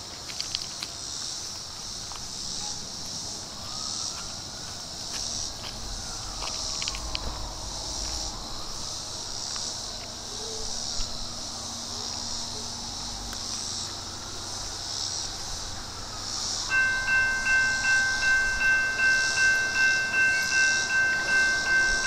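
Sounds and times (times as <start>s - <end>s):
insects buzzing in trees: 0.0s - 22.0s.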